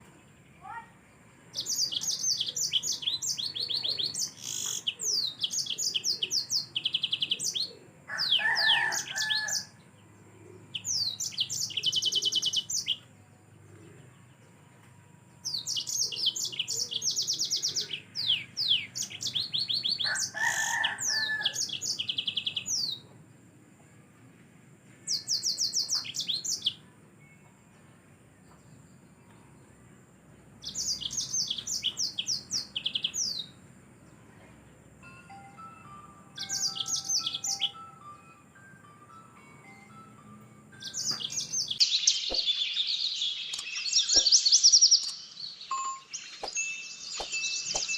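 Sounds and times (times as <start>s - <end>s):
canary singing trills and chirps: 1.5s - 14.6s, 15.3s - 23.2s, 25.1s - 27.6s, 30.6s - 34.2s, 34.8s - 47.9s.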